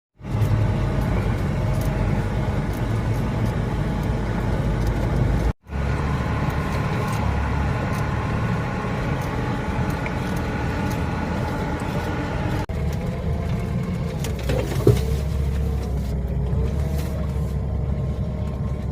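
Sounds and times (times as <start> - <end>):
off-roader engine running: 0.2 - 18.9.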